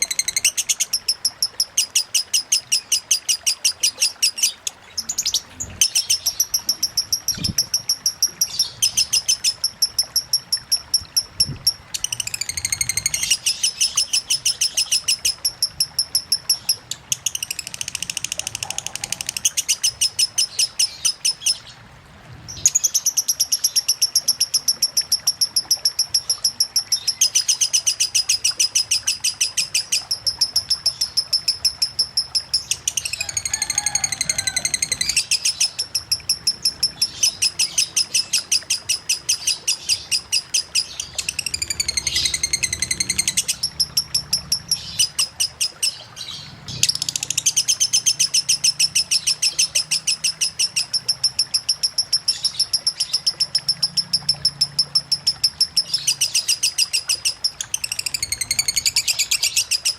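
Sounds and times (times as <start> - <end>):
lovebird chirping rapidly: 0.0 - 21.7, 22.5 - 59.9
faint running water: 0.0 - 59.9.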